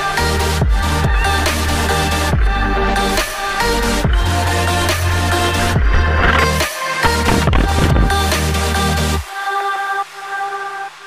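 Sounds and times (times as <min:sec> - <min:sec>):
electronic music with heavy bass: 0:00.0 - 0:09.2.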